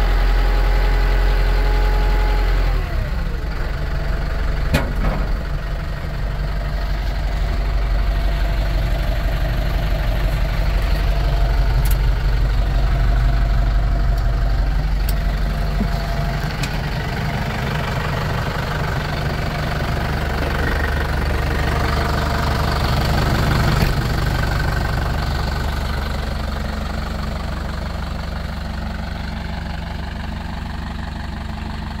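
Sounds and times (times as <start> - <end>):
tractor diesel engine idling: 0.0 - 32.0.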